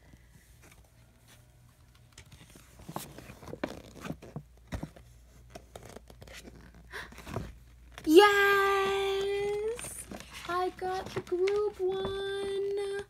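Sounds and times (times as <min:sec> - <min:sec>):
paper crinkling and rustling: 0:00.5 - 0:13.0.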